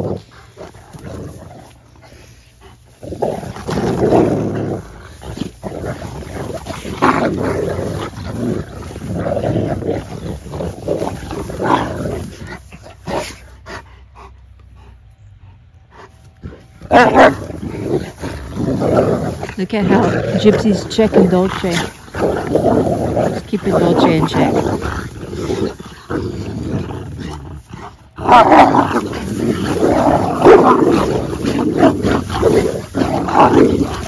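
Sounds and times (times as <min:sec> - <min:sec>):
dogs growling: 0:00.0 - 0:34.0.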